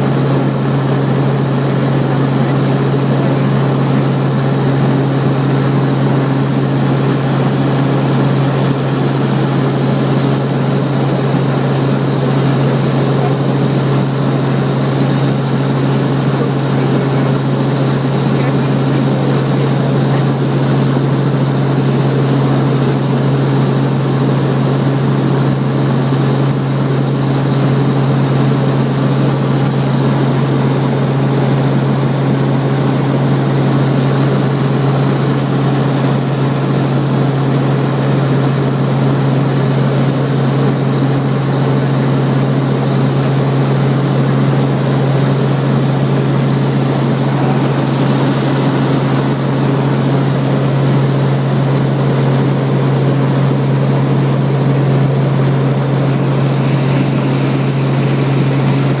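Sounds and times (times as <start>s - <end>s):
helicopter drone: 0.0s - 59.0s.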